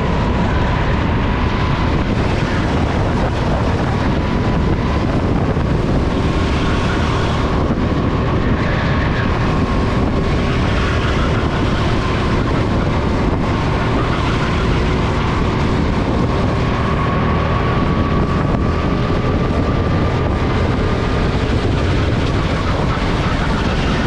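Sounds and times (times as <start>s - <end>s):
go-kart engine running: 0.0s - 24.0s
wind noise on microphone: 0.0s - 24.0s.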